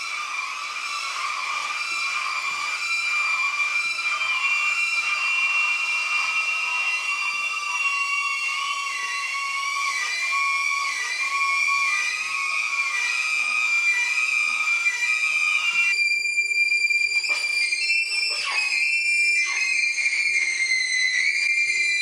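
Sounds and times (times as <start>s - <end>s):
high sustained whistling tones: 0.0s - 22.0s.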